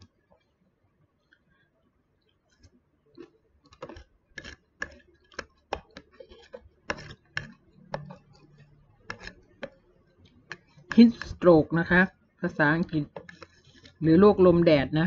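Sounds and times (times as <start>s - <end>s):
spoon scraping plastic container: 2.5s - 14.7s.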